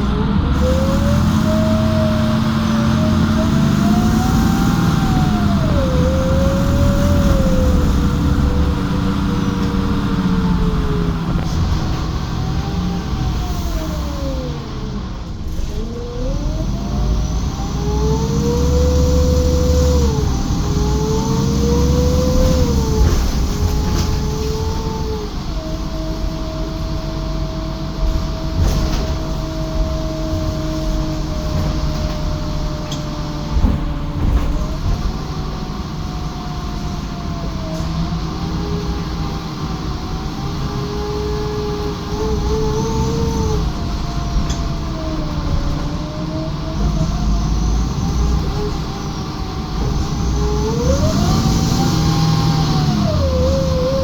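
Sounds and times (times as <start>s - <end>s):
bus drivetrain whine: 0.0s - 54.0s
bus engine: 0.0s - 54.0s.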